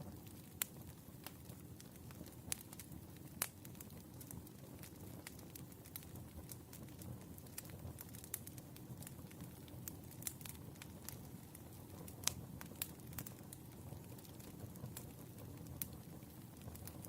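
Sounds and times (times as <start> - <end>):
firewood crackling and popping: 0.0 - 17.0
low rumble of flames: 0.0 - 17.0.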